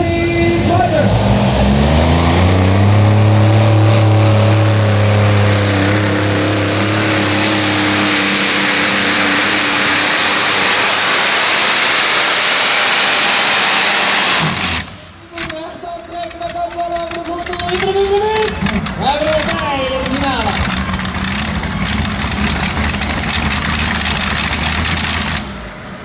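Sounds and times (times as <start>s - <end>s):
pulling tractor engines at full throttle: 0.0s - 26.0s.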